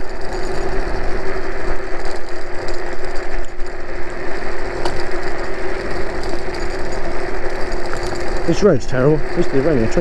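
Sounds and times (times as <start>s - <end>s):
electric scooter motor whine: 0.0s - 10.0s
tyres rumbling on rough road: 0.0s - 10.0s.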